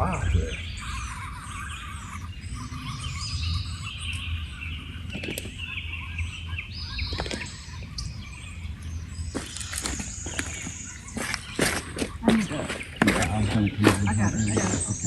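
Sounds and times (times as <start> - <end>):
birds chirping and calling: 0.0 - 15.0
steady low rumble: 0.0 - 15.0.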